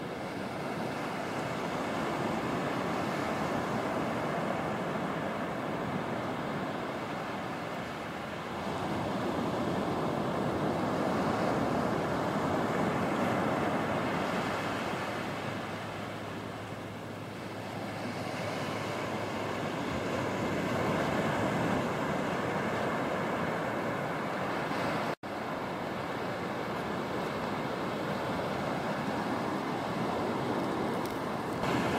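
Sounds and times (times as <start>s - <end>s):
ocean surf breaking on beach: 0.0s - 31.9s.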